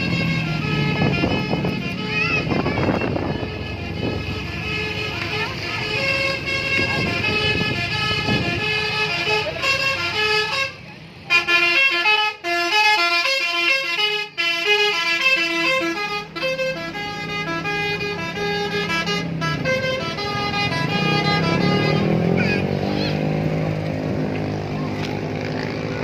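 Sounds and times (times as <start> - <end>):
multi-tone bus horn tune: 0.0 - 24.6.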